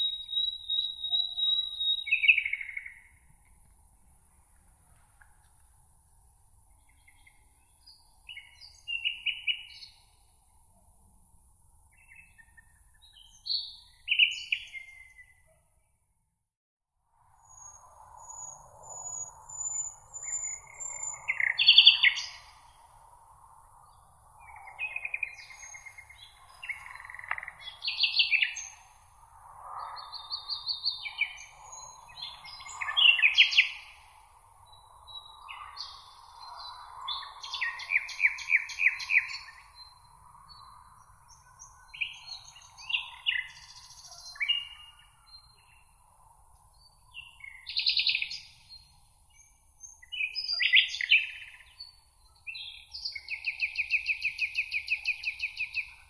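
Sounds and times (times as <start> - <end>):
songbirds singing: 0.0 - 3.7, 6.6 - 10.4, 11.8 - 15.6, 17.4 - 56.0.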